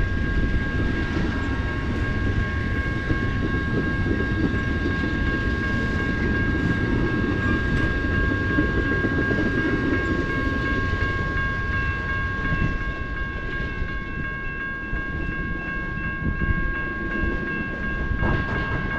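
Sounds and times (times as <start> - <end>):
train cars rolling on rails: 0.0 - 18.9.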